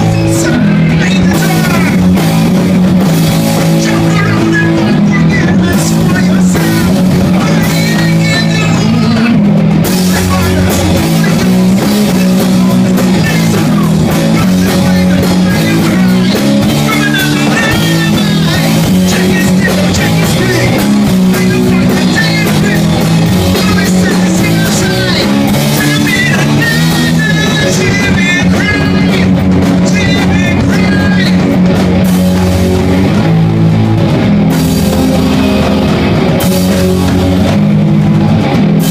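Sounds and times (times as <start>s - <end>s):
person singing: 0.0s - 2.7s, 3.4s - 33.4s
drum kit: 0.0s - 38.9s
electric guitar: 0.0s - 38.9s.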